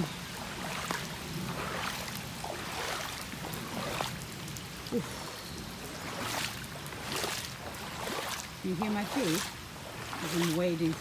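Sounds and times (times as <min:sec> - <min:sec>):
boots splashing through water: 0:00.0 - 0:11.0.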